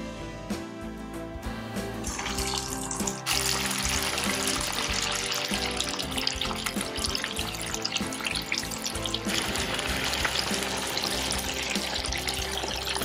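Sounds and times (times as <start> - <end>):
background music: 0.0 - 13.0
chicken deep-frying in oil: 2.0 - 13.0.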